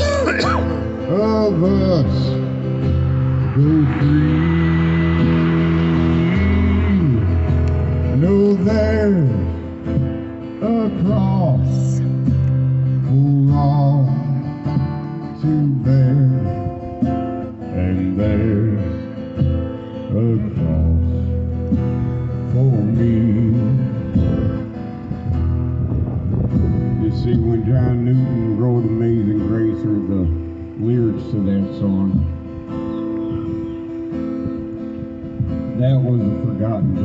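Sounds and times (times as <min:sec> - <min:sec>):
strummed guitar gospel instrumental: 0:00.0 - 0:37.0.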